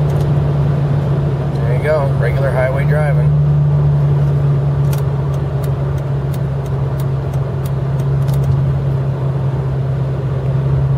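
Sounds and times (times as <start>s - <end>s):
low exhaust drone: 0.0s - 10.9s
road noise: 0.0s - 10.9s.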